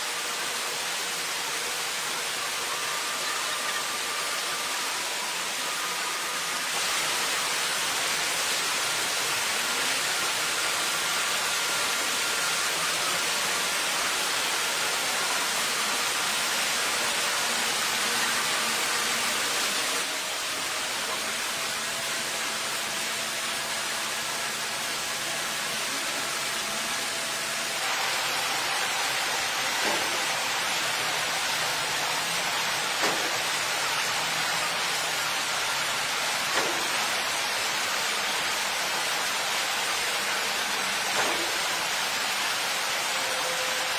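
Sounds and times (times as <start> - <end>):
steady rushing hiss: 0.0 - 43.9.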